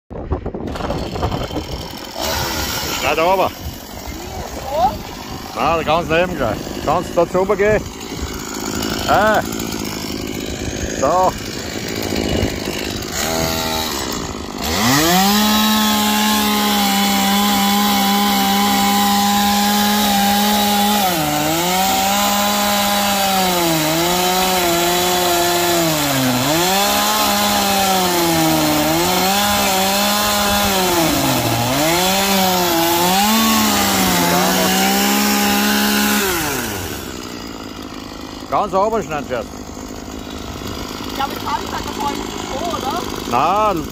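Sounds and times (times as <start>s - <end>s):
chainsaw cutting log: 0.4s - 43.9s.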